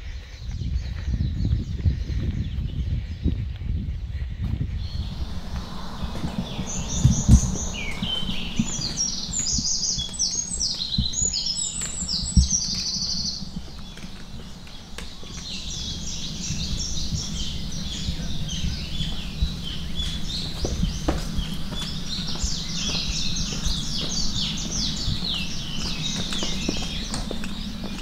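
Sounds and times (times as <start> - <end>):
steady low rumble: 2.9 - 28.0
small birds chirping: 4.7 - 28.0.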